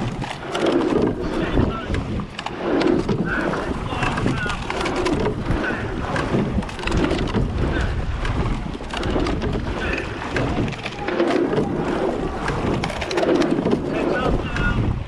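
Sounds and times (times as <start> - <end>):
knock of oars and rigging: 0.0 - 15.0
water rushing along hull: 0.0 - 15.0
wind buffeting microphone: 0.0 - 15.0.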